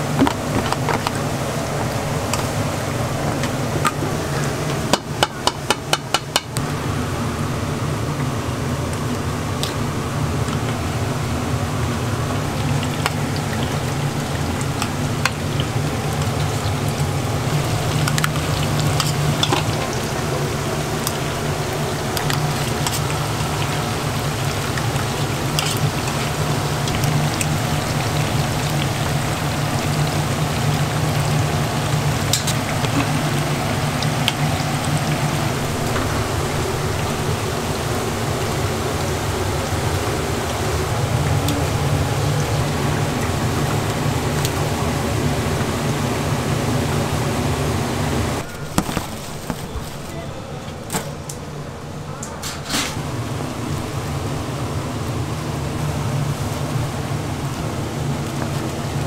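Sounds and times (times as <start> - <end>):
fritters deep-frying in oil: 0.0 - 50.0.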